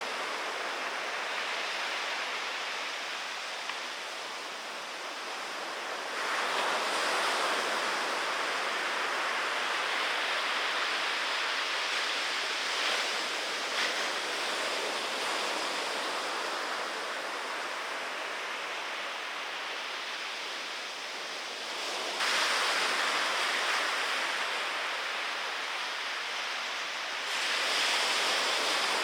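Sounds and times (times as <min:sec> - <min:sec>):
waves breaking: 0:00.0 - 0:29.0.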